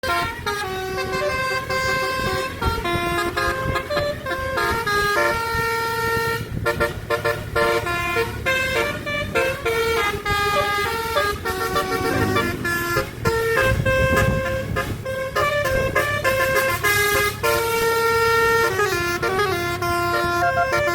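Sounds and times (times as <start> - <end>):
bus horn playing a tune: 0.0 - 20.9
low vehicle rumble: 0.0 - 20.9.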